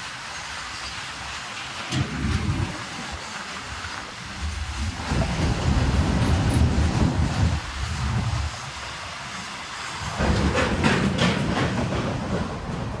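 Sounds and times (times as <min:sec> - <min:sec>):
train wagons rumbling: 0:00.1 - 0:13.0
wheels clattering over rail joints: 0:00.1 - 0:13.0.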